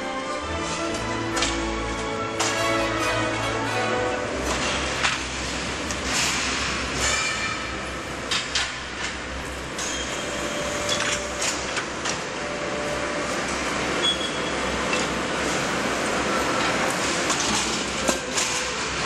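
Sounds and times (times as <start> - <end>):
machinery low hum: 0.0 - 19.0.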